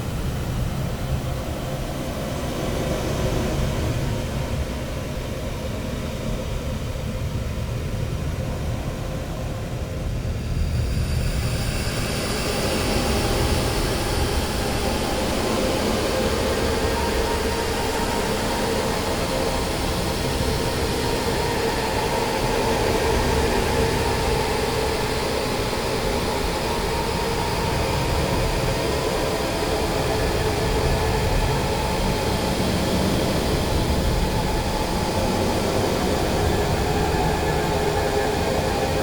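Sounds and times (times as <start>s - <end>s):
dense wall of noise: 0.0s - 39.0s.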